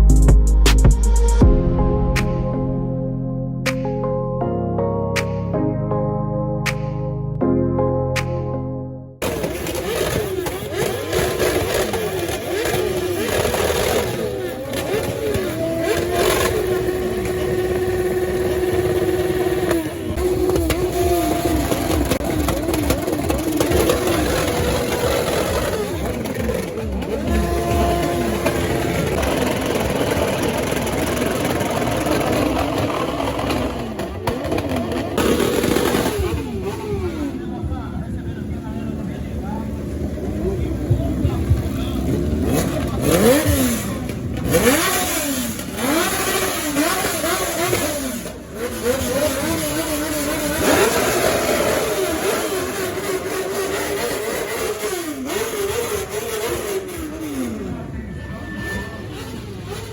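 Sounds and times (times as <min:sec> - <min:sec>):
motorcycle engines revving: 0:09.2 - 0:59.9.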